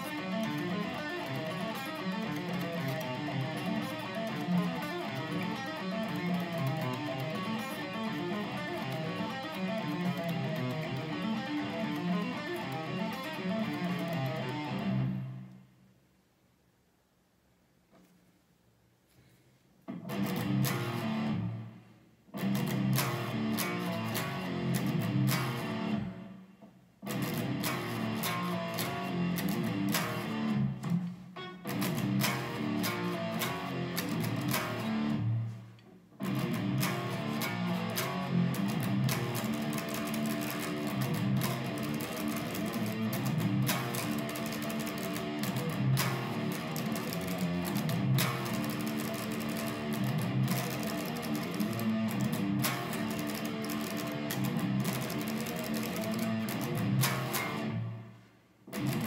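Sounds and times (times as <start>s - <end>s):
electric guitar riffs and chords: 0.0s - 15.5s, 19.9s - 59.0s.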